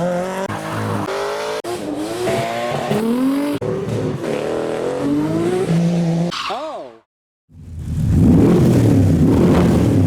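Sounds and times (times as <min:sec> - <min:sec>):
car engines revving and accelerating: 0:00.0 - 0:06.3, 0:07.7 - 0:10.0.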